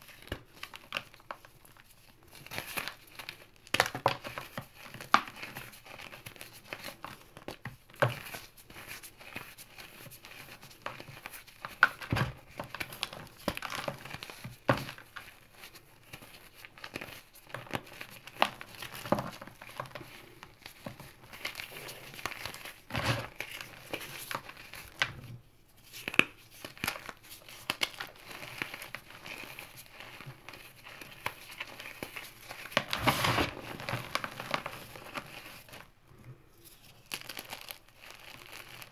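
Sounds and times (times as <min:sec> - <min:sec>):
hands crumbling chalk chunks: 0:00.0 - 0:35.9, 0:36.6 - 0:38.9.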